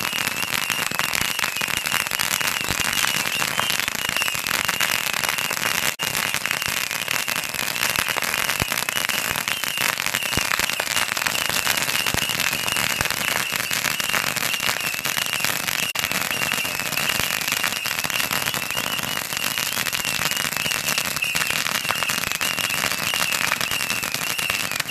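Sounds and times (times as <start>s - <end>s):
firecrackers crackling: 0.0s - 24.9s
high firework whistle: 0.0s - 24.9s.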